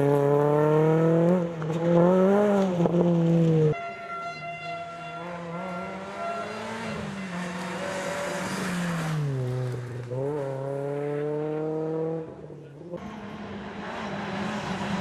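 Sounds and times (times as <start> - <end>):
rally car engine revving: 0.0 - 3.8, 5.2 - 15.0
tyre and road noise: 0.0 - 15.0.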